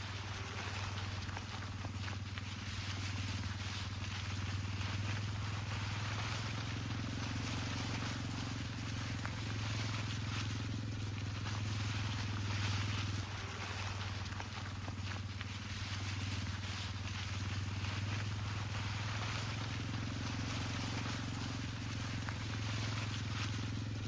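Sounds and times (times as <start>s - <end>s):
engine-like hum: 0.0s - 24.0s.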